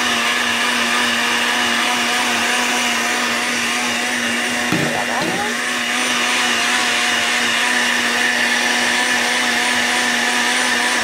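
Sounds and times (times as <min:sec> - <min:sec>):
blender motor humming: 0:00.0 - 0:11.0.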